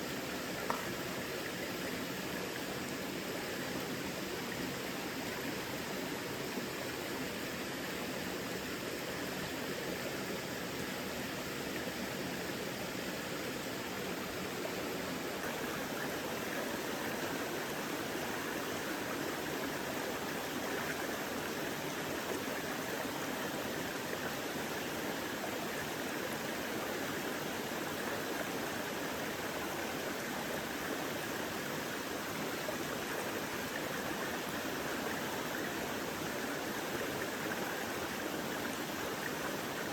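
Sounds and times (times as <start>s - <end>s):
mountain stream flowing: 0.0s - 39.9s.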